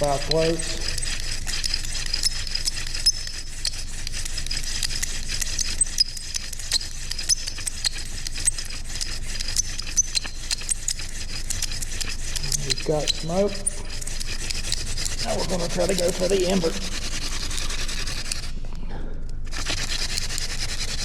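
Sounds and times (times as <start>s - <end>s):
small clicks and squeaks: 0.0s - 18.6s, 19.5s - 21.0s
wooden spindle friction rubbing: 0.0s - 18.6s, 19.4s - 21.0s.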